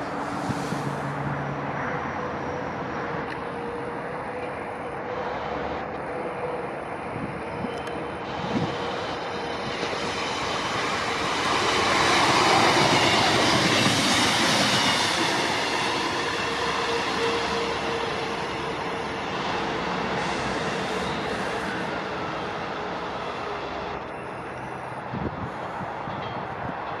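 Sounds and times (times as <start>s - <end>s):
rail noise: 0.0s - 27.0s
train passing at speed: 0.0s - 27.0s.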